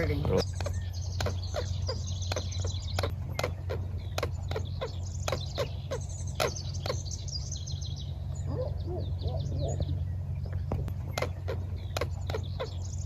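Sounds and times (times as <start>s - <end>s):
birds chirping: 0.0s - 13.0s
high bird twittering: 0.0s - 13.0s
steady low hum: 0.0s - 13.0s.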